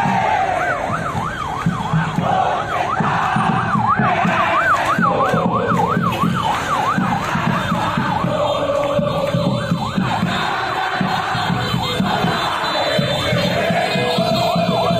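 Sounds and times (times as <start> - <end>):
electronic siren yelping: 0.0 - 14.9
large crowd noise: 0.0 - 14.9.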